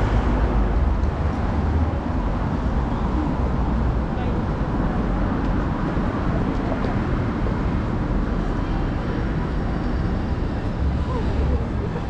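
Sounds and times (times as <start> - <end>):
faint voices of passers-by: 0.0 - 12.0
traffic hum: 0.0 - 12.0.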